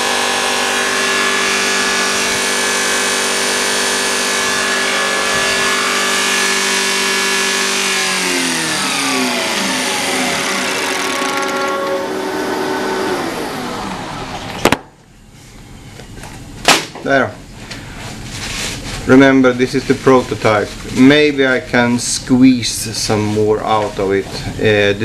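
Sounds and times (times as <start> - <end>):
test bench mechanical hum: 0.0 - 25.0.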